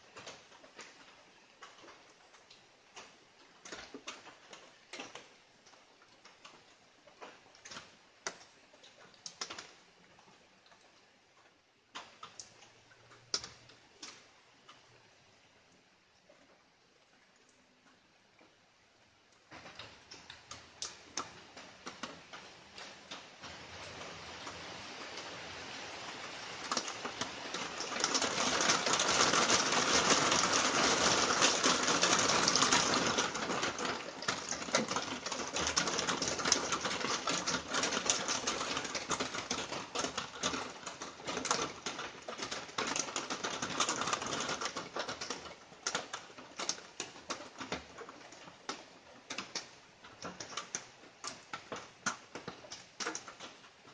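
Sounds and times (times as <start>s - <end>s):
light rain pattering: 0.0s - 53.9s.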